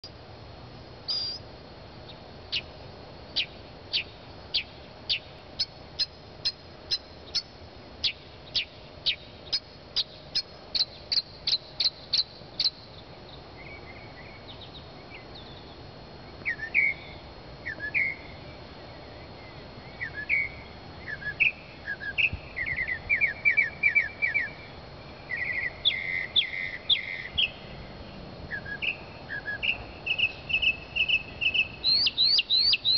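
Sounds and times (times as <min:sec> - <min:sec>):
mockingbird singing: 0:01.1 - 0:01.4, 0:03.4 - 0:27.8, 0:28.5 - 0:32.9.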